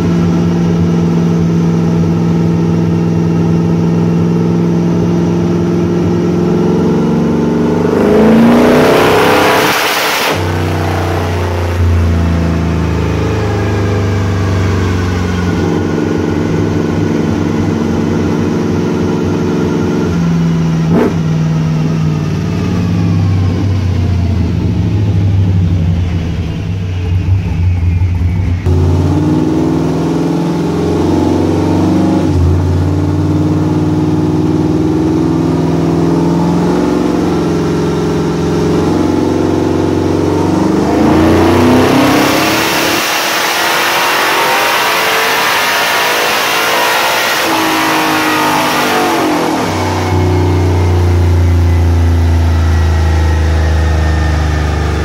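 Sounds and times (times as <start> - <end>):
engine revving on dyno: 0.0 - 25.3, 28.6 - 55.0.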